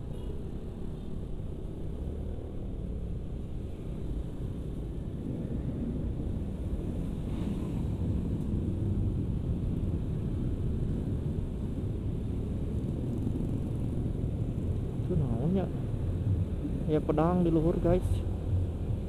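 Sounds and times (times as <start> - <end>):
scooter engine and road noise: 0.0 - 19.0
wind rumbling on microphone: 2.1 - 19.0.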